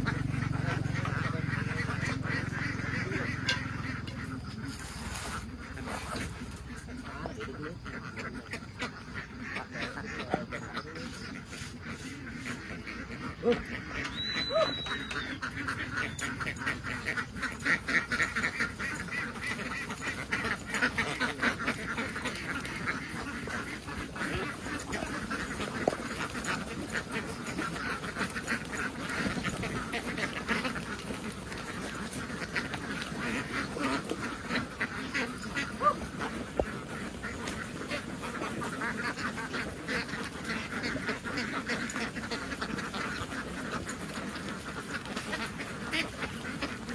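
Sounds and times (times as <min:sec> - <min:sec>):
ducks quacking: 0:00.0 - 0:46.9.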